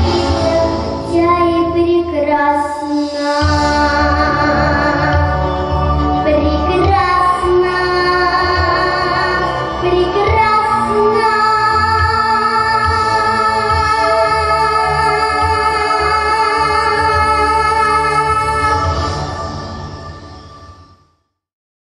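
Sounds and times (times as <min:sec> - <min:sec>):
instrumental accompaniment: 0:00.0 - 0:21.2
girl singing: 0:00.4 - 0:05.4, 0:06.2 - 0:18.9.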